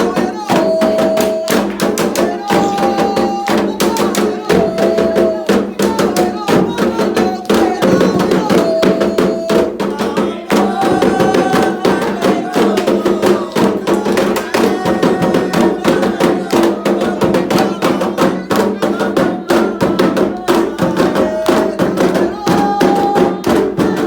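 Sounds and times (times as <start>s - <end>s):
hand drums playing fast: 0.0s - 24.0s
voices singing a chant: 0.0s - 24.0s.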